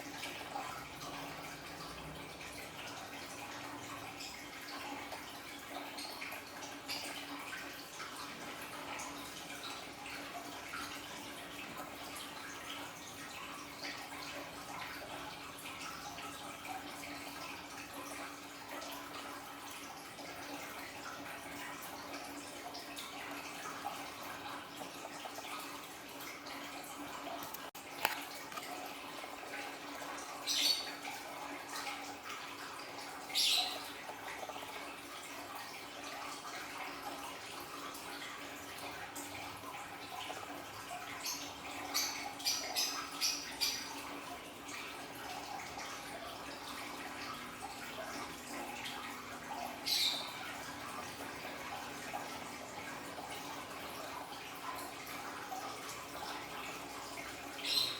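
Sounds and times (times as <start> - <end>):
water trickling and splashing: 0.0 - 57.9.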